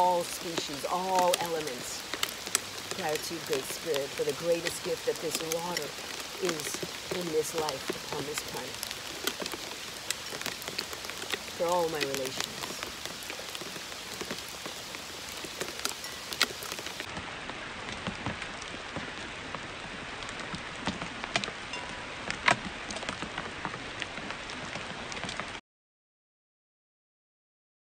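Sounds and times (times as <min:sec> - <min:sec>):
hail falling: 0:00.0 - 0:25.6
hailstones ticking: 0:00.0 - 0:25.6.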